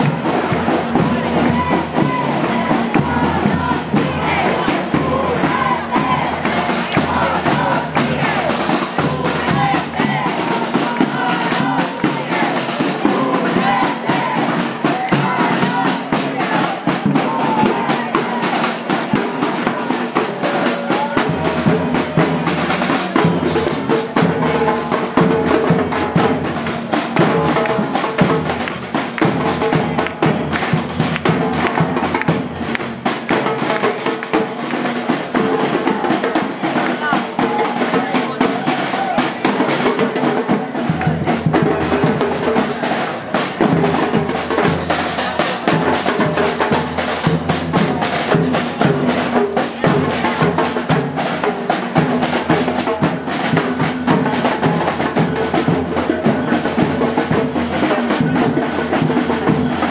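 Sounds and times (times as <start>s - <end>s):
crowd voices: 0.0s - 59.9s
marching drum band: 0.0s - 59.9s.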